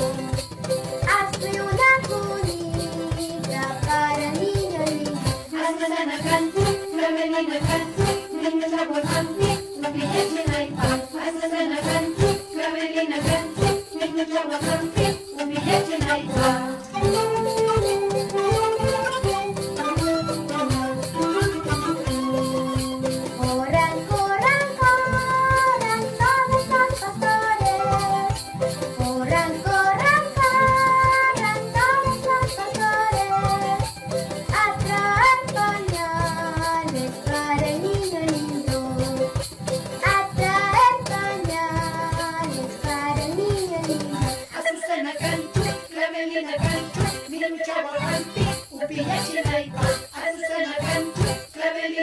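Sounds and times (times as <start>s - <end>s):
folk ensemble playing: 0.0s - 51.6s.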